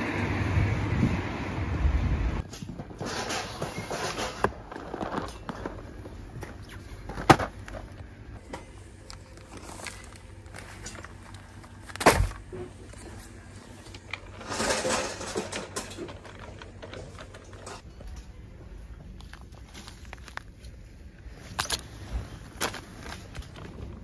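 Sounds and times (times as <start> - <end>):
groceries rustling: 2.6 - 24.0.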